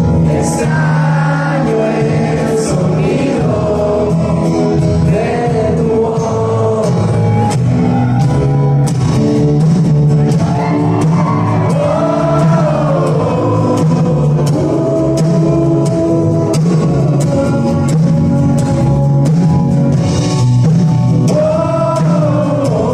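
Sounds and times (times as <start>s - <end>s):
person singing: 0.0s - 8.0s, 10.4s - 19.6s, 21.2s - 22.9s
electric guitar: 0.0s - 22.9s.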